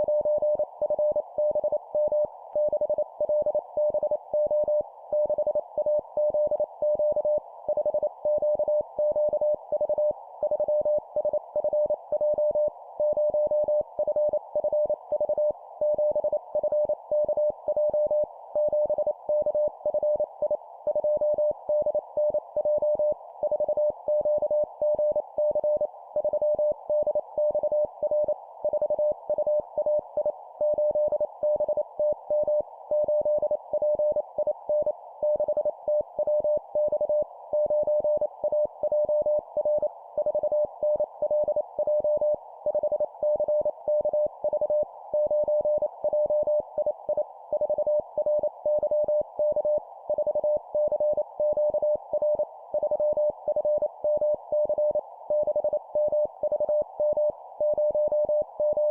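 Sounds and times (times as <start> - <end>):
morse code beeps: 0.0 - 58.9.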